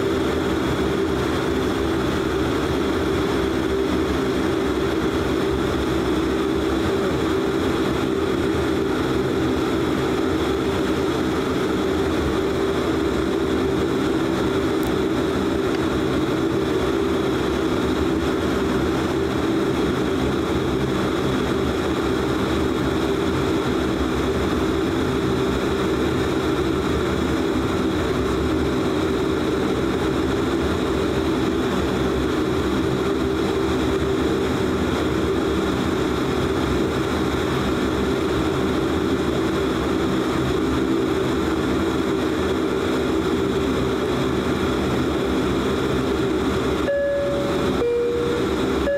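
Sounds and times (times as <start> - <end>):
turboprop engines droning: 0.0 - 48.9.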